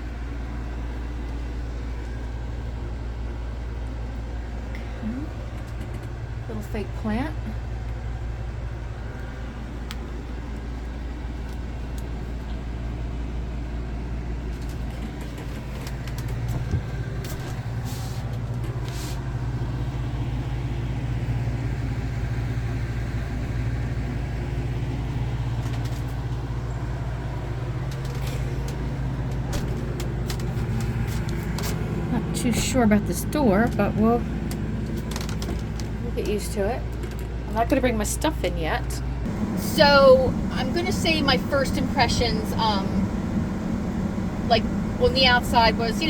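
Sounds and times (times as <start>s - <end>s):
air conditioning unit humming: 0.0s - 46.0s.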